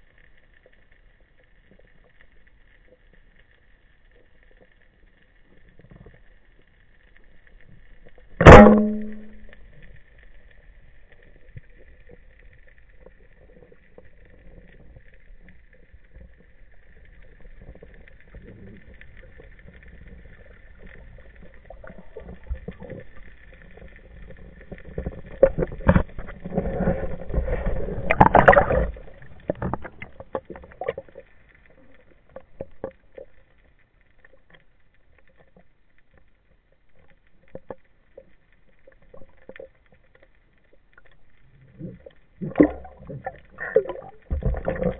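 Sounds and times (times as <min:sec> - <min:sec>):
muffled underwater rumble: 0:00.0 - 0:44.9
rumbling and crackling: 0:00.0 - 0:44.9
underwater clicks: 0:08.0 - 0:36.3, 0:37.0 - 0:44.9.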